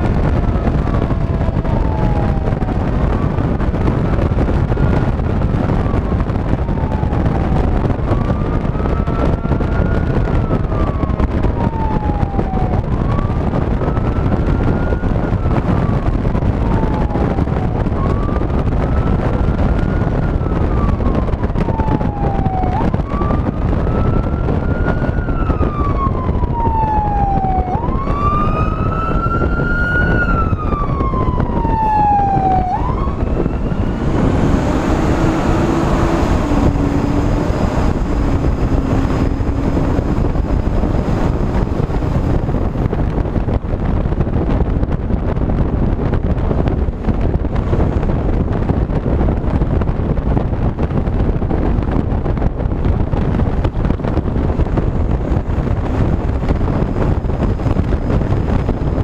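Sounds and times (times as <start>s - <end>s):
fire engine siren wailing: 0.0s - 59.0s
road rumble: 0.0s - 59.0s
wind noise: 0.0s - 59.0s.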